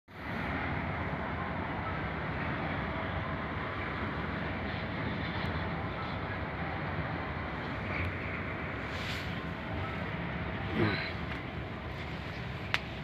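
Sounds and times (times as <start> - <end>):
vehicle rumbling: 0.1 - 13.0.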